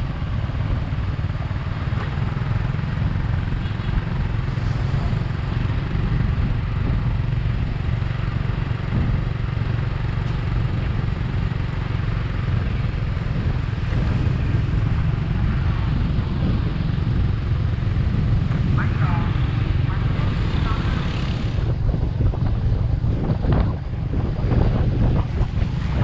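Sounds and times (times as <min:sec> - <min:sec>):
motorcycle engine running: 0:00.0 - 0:26.0
wind rumble on microphone: 0:00.0 - 0:26.0.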